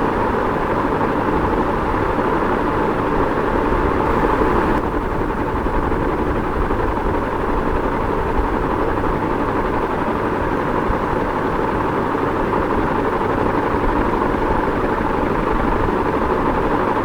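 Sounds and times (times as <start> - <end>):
ceiling fan running: 0.0 - 17.0.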